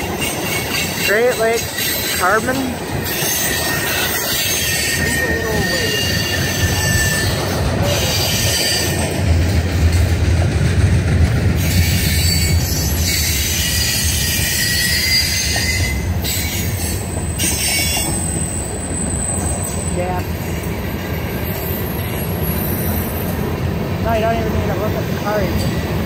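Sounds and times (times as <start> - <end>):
train wheels squealing on rails: 0.0 - 10.1, 11.4 - 26.0
train rumble: 0.0 - 26.0.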